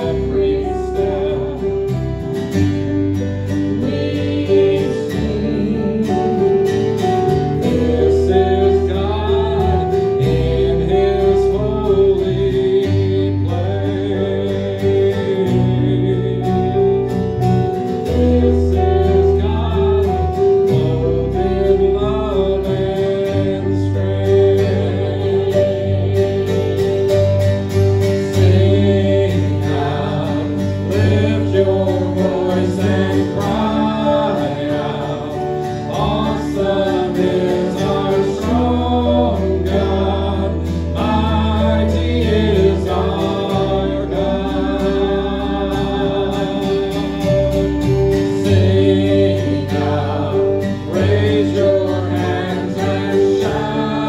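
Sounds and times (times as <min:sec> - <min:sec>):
band playing gospel song: 0:00.0 - 0:54.0.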